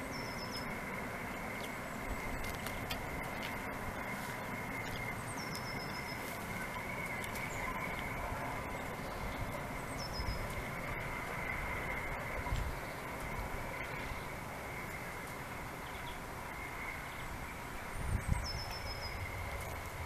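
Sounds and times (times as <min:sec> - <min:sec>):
outdoor hiss and rumble: 0:00.0 - 0:20.0.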